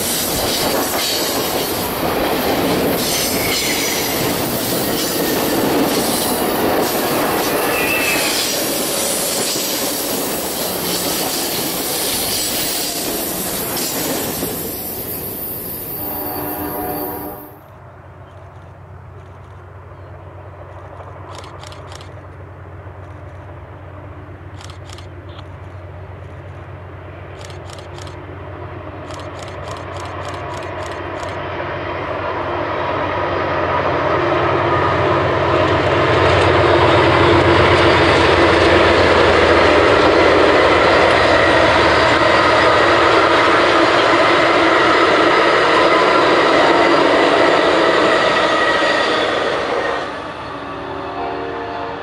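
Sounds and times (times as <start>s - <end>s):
passenger train passing: 0.0s - 52.0s.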